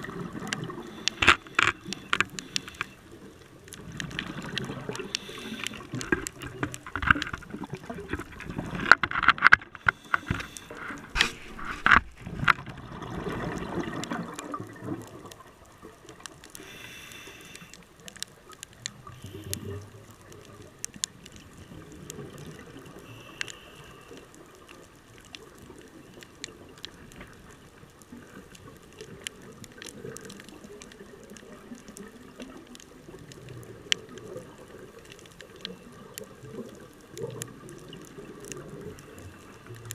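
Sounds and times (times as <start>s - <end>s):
muffled underwater water noise: 0.0s - 39.9s
sharp clicks and crackles: 0.0s - 39.9s.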